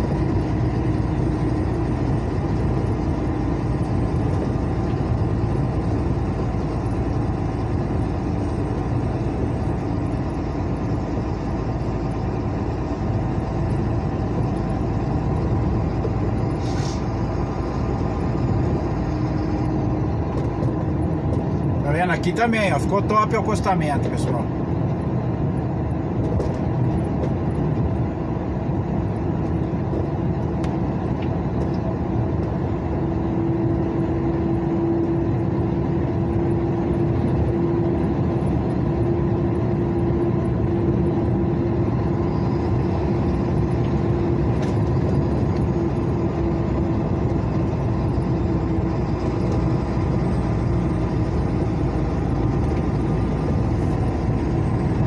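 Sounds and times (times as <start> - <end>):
car tyre and engine noise: 0.0 - 55.0.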